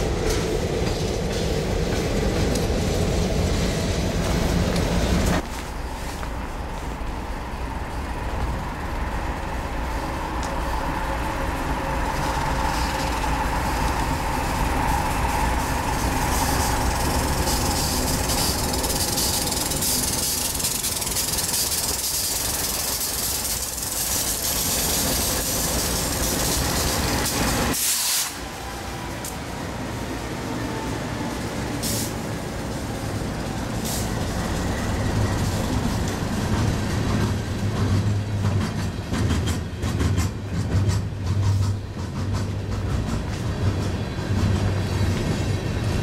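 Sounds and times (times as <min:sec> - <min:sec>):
diesel locomotive rumble: 0:00.0 - 0:46.0
wheels hissing on rail: 0:00.0 - 0:46.0.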